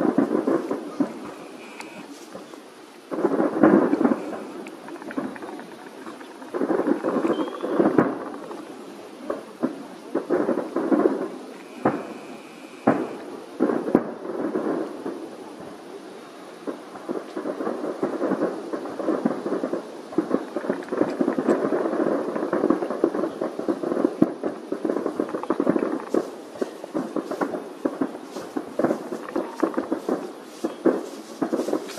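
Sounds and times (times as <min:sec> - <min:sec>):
fireworks bangs: 0:00.0 - 0:31.9
fireworks crackle: 0:00.0 - 0:31.9.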